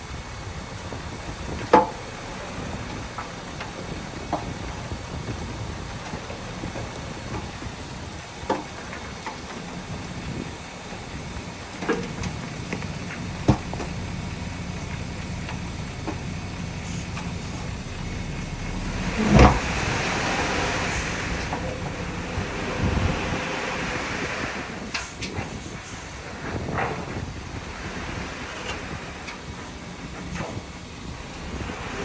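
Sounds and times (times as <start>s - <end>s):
heavy machinery engine rumble: 0.0s - 32.0s.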